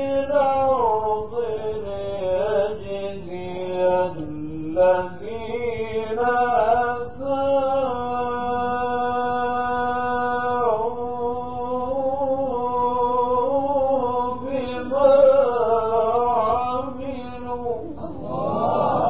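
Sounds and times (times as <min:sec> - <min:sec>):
man chanting recitation: 0:00.0 - 0:19.0.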